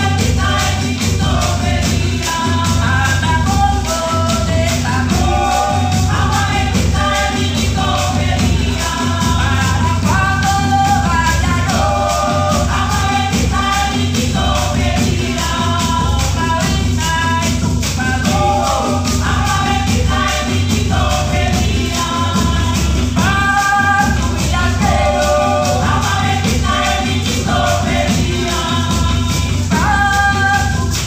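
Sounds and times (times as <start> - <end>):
hand drums: 0.0 - 31.0
marimba: 0.0 - 31.0
shakers: 0.0 - 31.0
voices singing: 0.0 - 31.0.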